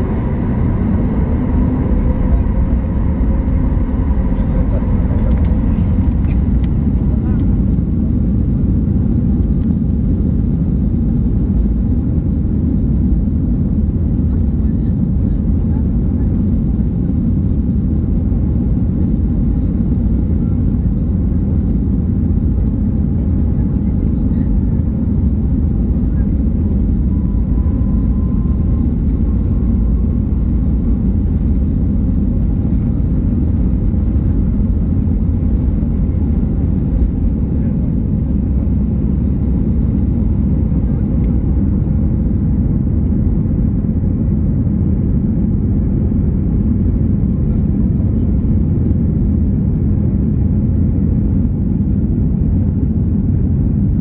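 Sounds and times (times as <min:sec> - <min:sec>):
jet engines deep rumble: 0:00.0 - 0:54.0.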